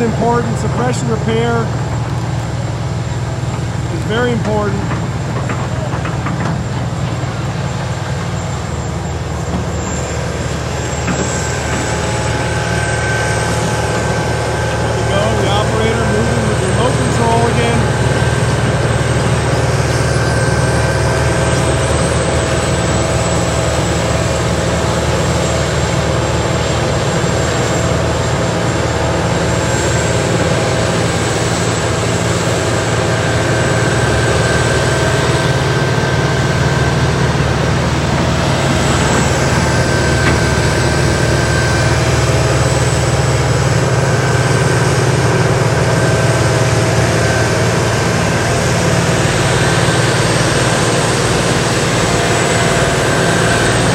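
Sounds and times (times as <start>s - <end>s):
grinder engine drone: 0.0s - 53.9s.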